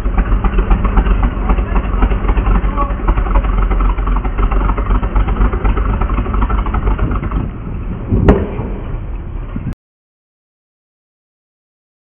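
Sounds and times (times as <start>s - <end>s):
heavy vehicle engine idling: 0.0s - 9.8s.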